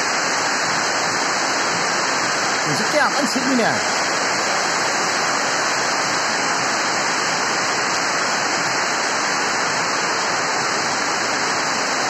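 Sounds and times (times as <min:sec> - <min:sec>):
heavy rain on ground and roofs: 0:00.0 - 0:12.0.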